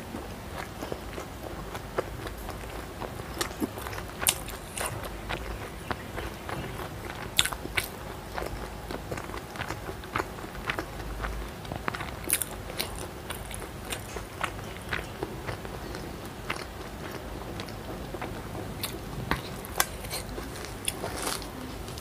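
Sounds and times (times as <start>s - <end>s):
chewing and mouth sounds: 0.1s - 22.0s.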